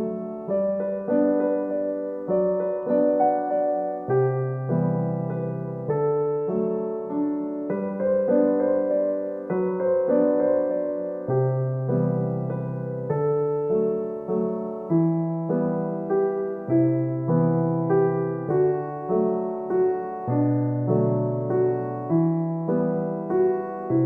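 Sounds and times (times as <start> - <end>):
slow gentle piano music: 0.0 - 24.0.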